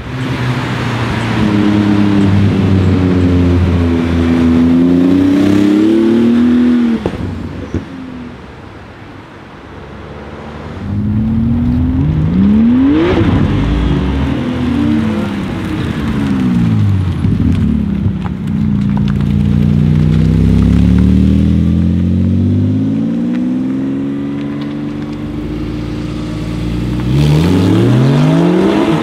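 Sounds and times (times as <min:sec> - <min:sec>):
sports car accelerating hard: 0:00.1 - 0:07.8, 0:10.2 - 0:17.9, 0:19.1 - 0:29.0.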